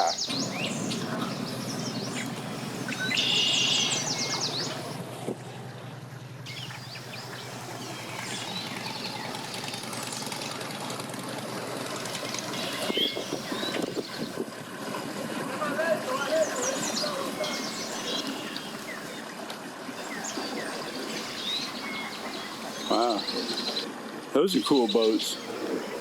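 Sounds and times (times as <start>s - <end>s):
birds chirping: 0.0s - 10.6s, 12.0s - 14.4s, 16.0s - 19.3s, 20.0s - 26.0s
boat engine running: 0.0s - 26.0s.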